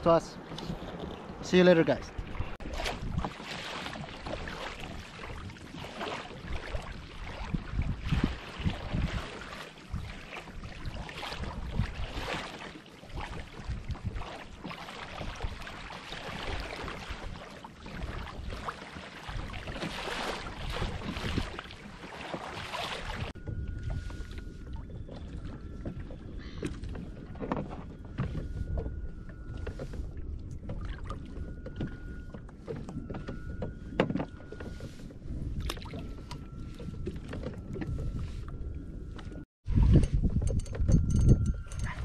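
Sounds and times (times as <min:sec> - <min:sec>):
wind rumbling on microphone: 0:00.0 - 0:12.5, 0:13.1 - 0:21.9, 0:22.6 - 0:42.0
water splashing against kayak hull: 0:00.4 - 0:41.0.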